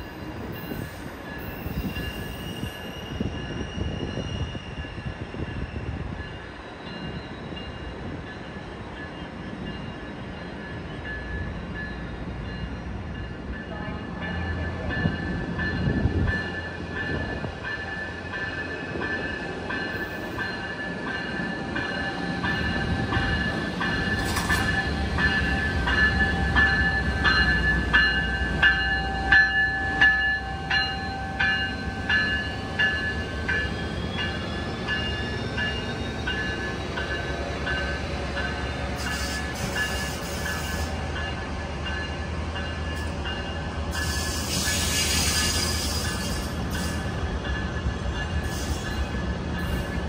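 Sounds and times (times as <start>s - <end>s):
train rumbling past: 0.0s - 50.0s.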